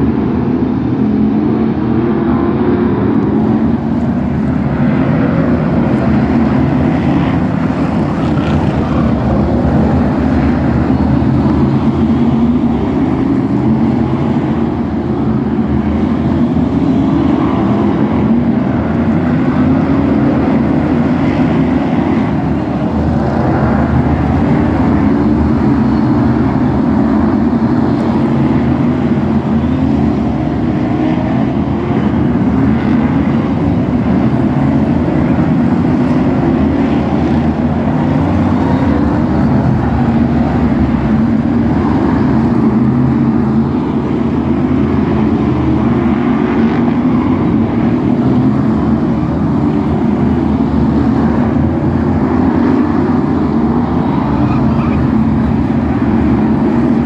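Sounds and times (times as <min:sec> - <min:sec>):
racing car engines: 0:00.0 - 0:57.0.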